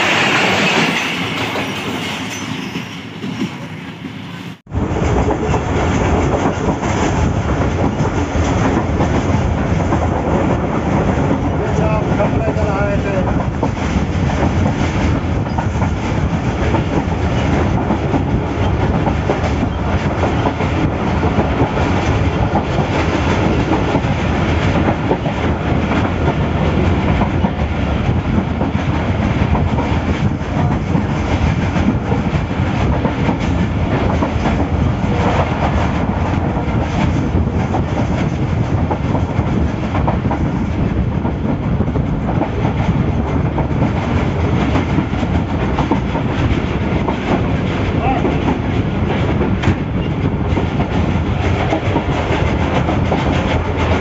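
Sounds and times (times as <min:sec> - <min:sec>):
train wheels rumbling and rattling: 0:00.0 - 0:54.0.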